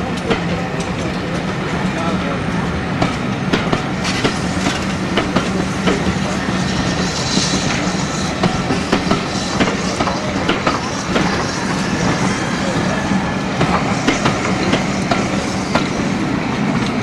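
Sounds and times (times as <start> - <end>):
train wheels clicking on rail joints: 0.0 - 2.3, 3.0 - 17.0
train rumble: 0.0 - 17.0.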